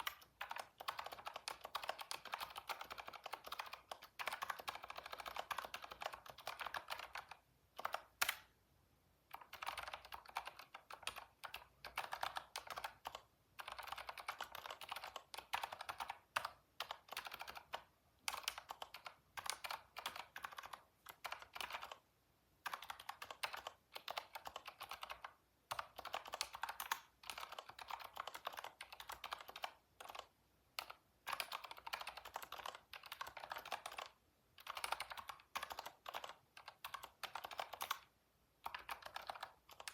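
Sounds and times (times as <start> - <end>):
computer keyboard typing: 0.0 - 8.5, 9.3 - 39.9.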